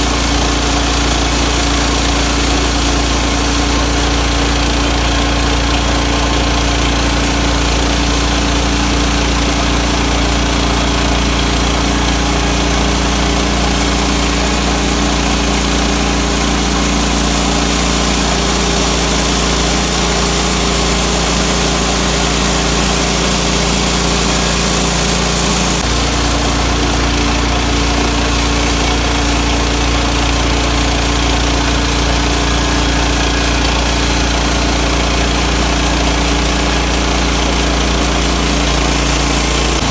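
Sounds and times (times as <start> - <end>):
sawmill engine running under load: 0.0 - 39.9.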